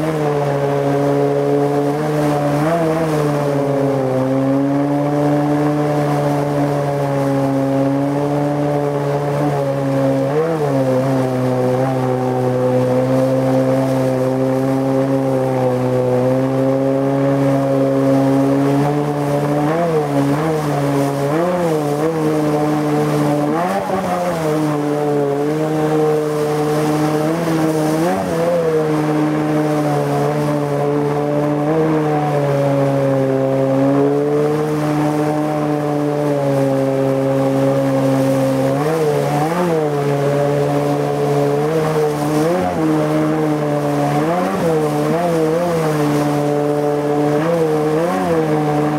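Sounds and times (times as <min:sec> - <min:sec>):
outboard engine running hard: 0:00.0 - 0:48.9.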